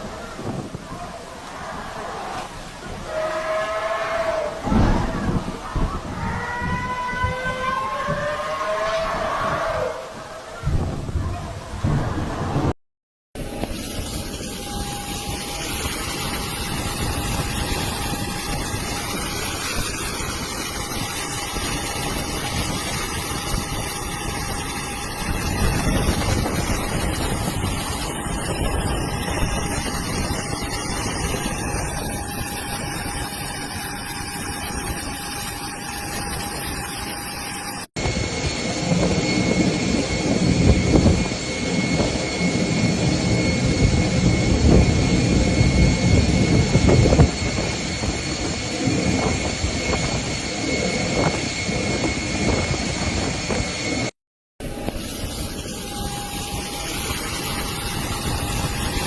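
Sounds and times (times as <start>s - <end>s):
strong wind gusts: 0.0s - 12.8s, 13.4s - 59.0s.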